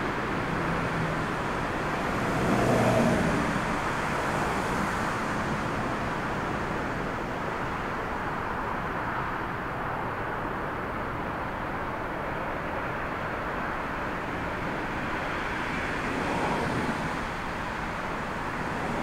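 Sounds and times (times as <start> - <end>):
airliner jet engines running: 0.0 - 19.0.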